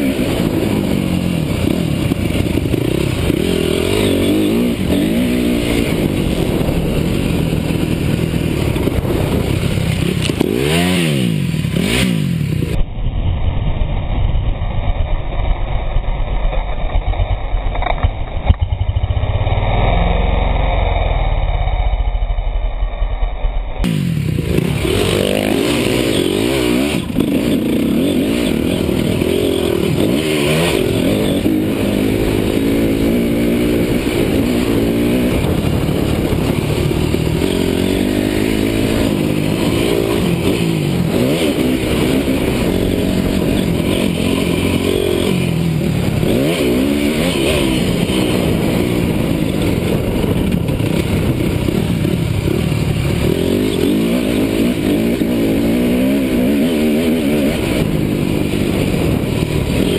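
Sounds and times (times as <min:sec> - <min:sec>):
motocross bike engine revving: 0:00.0 - 0:12.8, 0:23.8 - 0:59.9.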